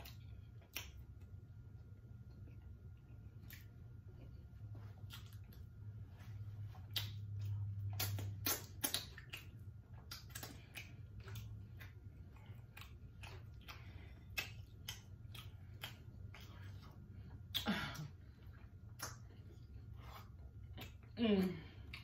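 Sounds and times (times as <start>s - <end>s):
chewing and mouth smacking: 0.0s - 22.0s
low steady hum: 0.0s - 22.0s.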